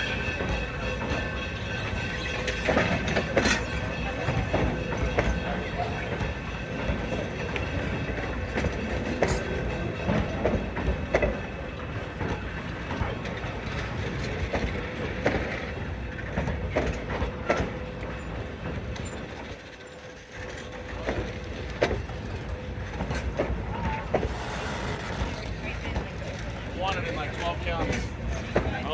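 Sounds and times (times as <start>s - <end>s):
train wheels rumbling on rail: 0.0s - 28.9s
wheels and couplings clanking: 0.0s - 28.9s.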